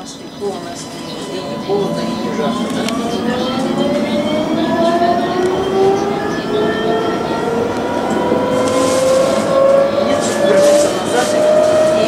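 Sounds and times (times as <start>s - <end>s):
tram motors whining: 0.0s - 12.0s.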